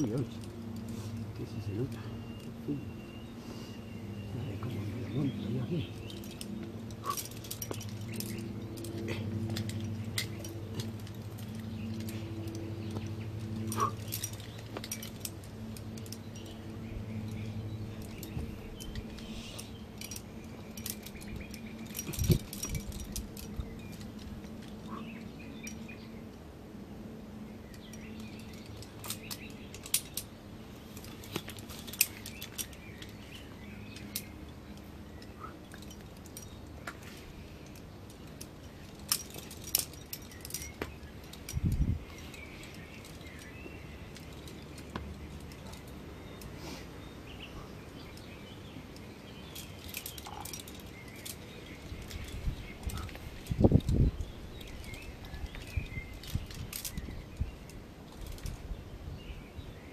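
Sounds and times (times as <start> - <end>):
birds chirping faintly: 0.0 - 59.9
metallic clicks of climbing gear: 0.0 - 59.9.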